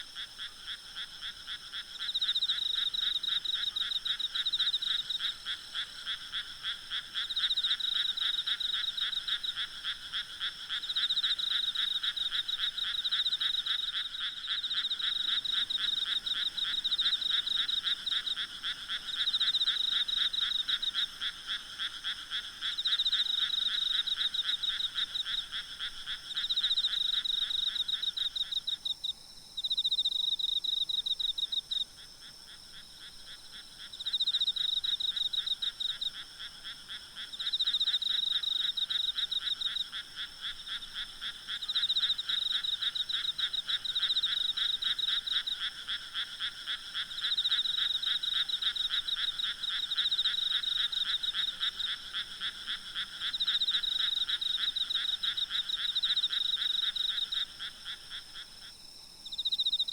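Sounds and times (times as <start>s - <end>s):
frogs calling in rattling pulses: 0.0s - 59.9s.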